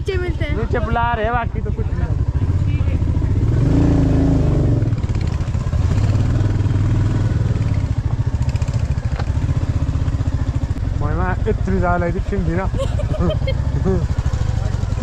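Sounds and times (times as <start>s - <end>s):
motorcycle engine at low speed: 0.0s - 15.0s.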